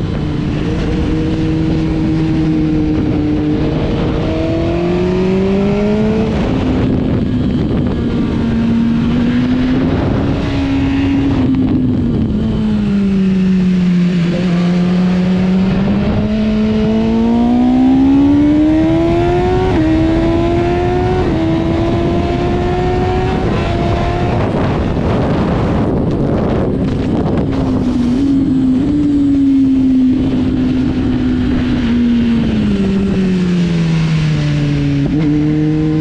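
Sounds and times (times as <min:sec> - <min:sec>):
motorcycle engine: 0:00.0 - 0:36.0
wind noise: 0:00.0 - 0:36.0.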